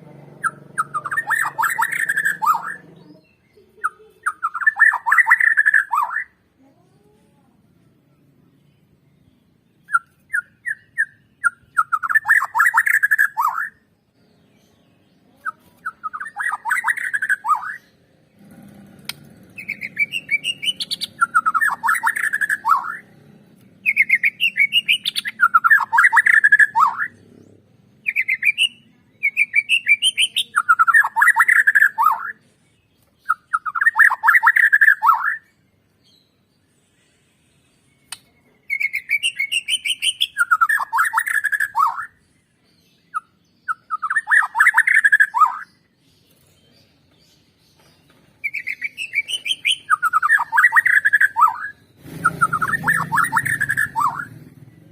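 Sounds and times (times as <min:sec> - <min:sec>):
songbird singing rattling phrases: 0:00.0 - 0:54.9.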